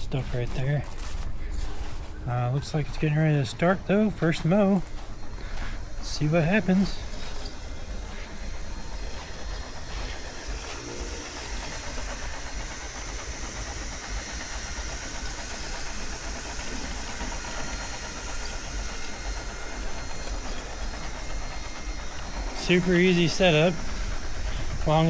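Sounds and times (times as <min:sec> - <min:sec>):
robotic lawnmower cutting grass: 0:00.0 - 0:25.0.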